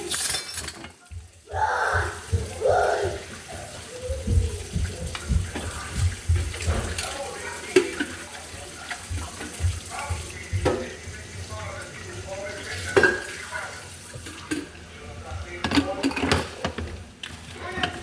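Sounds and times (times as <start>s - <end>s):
water running from tap: 0.0s - 18.0s.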